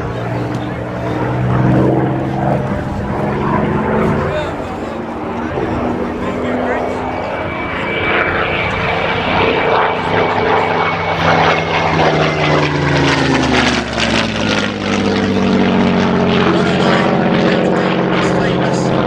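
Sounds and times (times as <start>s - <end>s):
propeller plane flying past: 0.0s - 19.0s.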